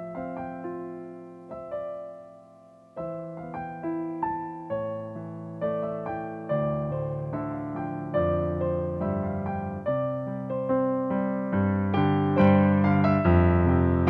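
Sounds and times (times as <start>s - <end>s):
soft digital piano chords: 0.0s - 14.0s.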